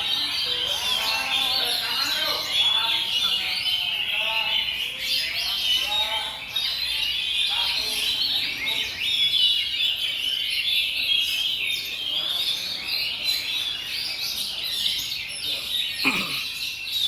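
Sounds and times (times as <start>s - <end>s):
many birds singing: 0.0s - 17.0s.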